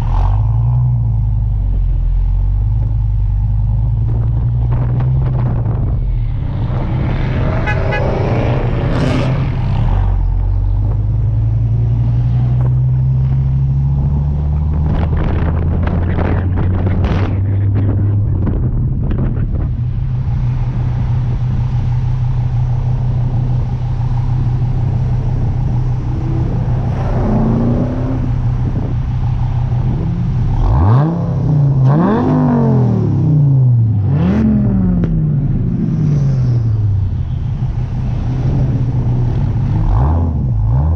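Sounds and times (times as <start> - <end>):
car engine running: 0.0 - 40.9
wind noise: 1.6 - 40.8.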